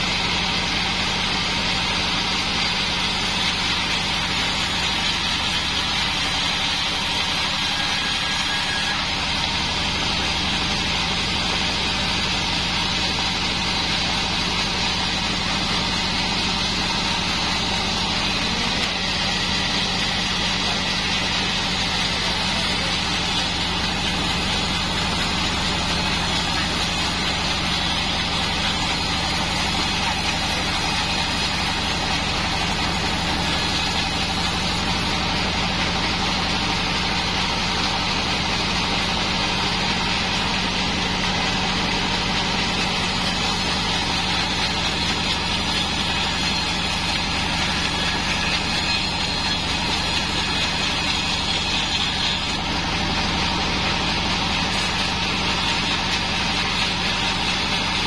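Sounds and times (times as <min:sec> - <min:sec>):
bandsaw mill humming: 0:00.0 - 0:58.0
saw blade hissing through log: 0:00.0 - 0:58.0.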